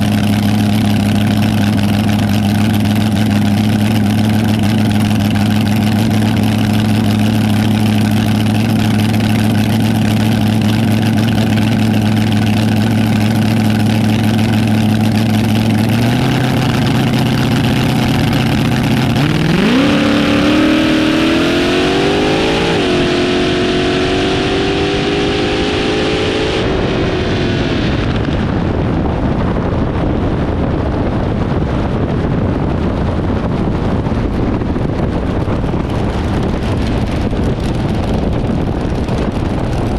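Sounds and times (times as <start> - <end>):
dragster engine: 0.0 - 39.9
wind noise: 0.0 - 39.9.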